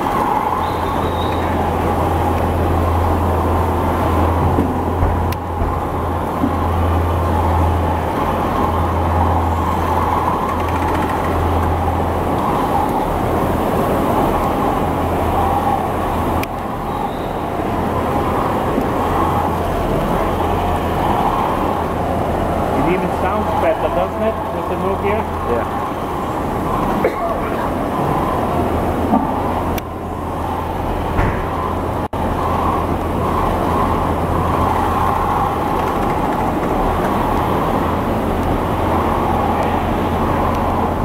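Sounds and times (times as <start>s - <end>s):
deep machinery hum: 0.0s - 41.0s.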